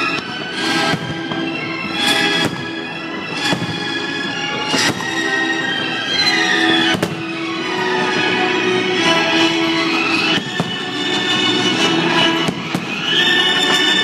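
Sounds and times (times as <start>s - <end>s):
fireworks bangs: 0.0s - 8.3s, 9.9s - 14.0s
music with sustained notes: 0.0s - 14.0s.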